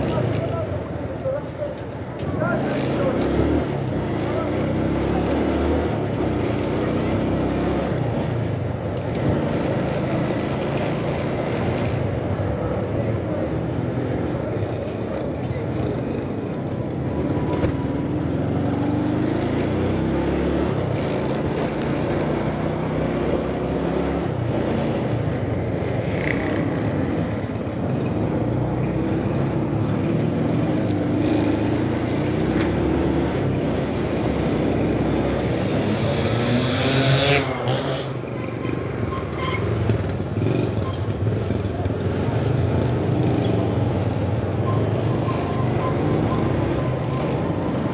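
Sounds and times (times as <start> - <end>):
road and wind noise: 0.0 - 47.9.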